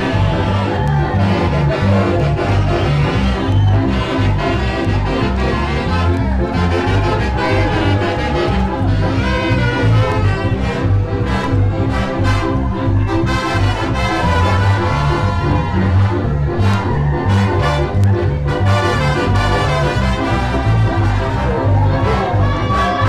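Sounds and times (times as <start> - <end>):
upbeat latin dance orchestra: 0.0 - 23.0.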